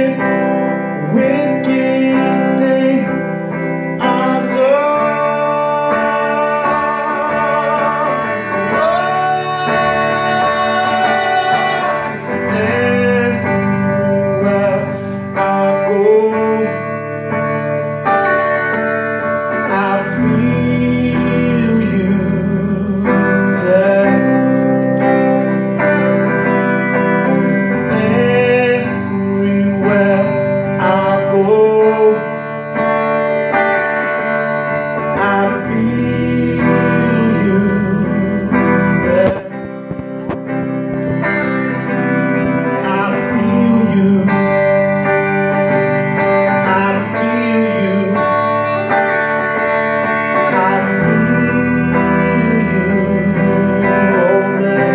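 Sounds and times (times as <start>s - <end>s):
acoustic guitar: 0.0s - 54.9s
electric guitar bending notes: 0.0s - 54.9s.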